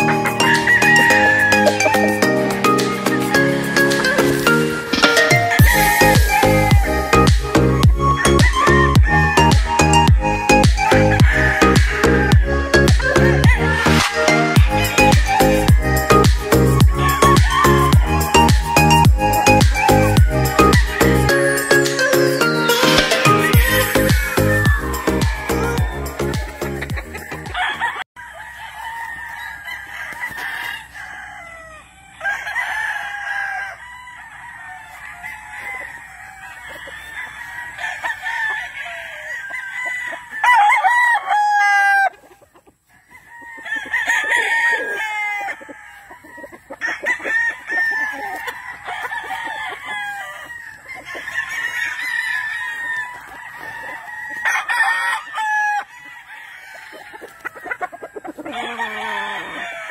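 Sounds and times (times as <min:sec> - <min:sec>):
chickens clucking: 0:00.0 - 0:59.9
roosters crowing: 0:00.0 - 0:59.9.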